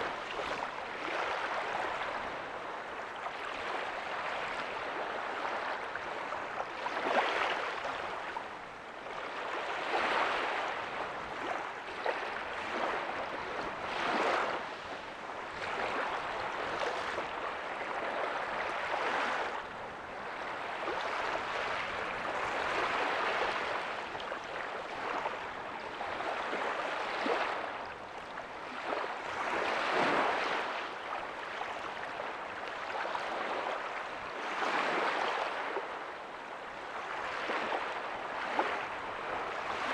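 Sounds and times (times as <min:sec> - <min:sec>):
ocean waves breaking softly: 0:00.0 - 0:39.9.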